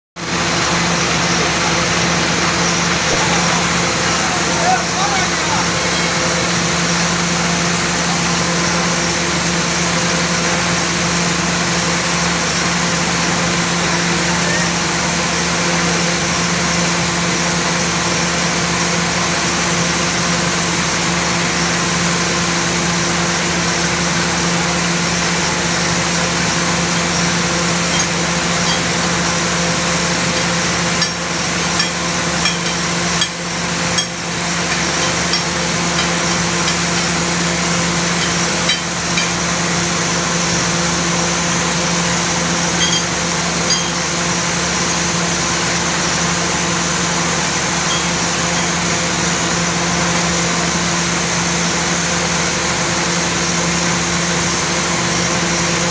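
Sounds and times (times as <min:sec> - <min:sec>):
air compressor running: 0:00.2 - 0:55.9
drilling rig machine drone: 0:00.2 - 0:55.9.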